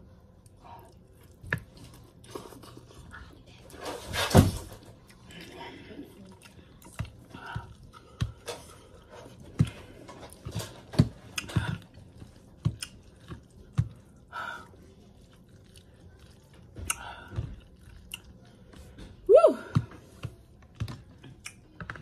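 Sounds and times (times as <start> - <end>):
person chewing noodles: 0.4 - 3.4, 4.9 - 19.1, 20.1 - 22.0.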